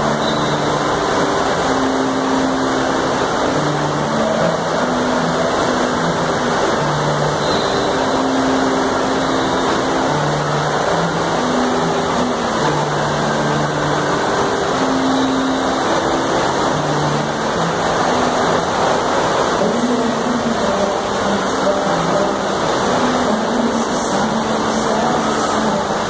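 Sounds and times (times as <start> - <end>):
water pouring into splash pool: 0.0 - 26.0.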